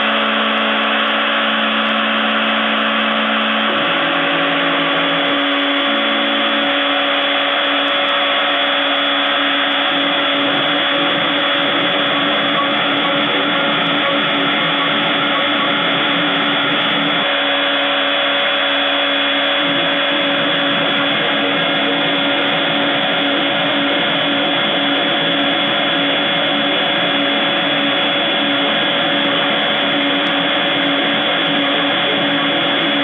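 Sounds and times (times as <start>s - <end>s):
end mill cutting wood: 0.0s - 33.0s
milling machine spindle whine: 0.0s - 33.0s.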